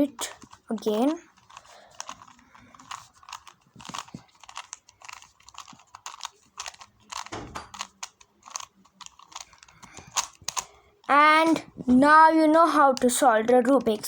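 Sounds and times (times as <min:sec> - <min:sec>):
puzzle cube plastic clicks: 0:00.0 - 0:11.9, 0:12.8 - 0:14.0.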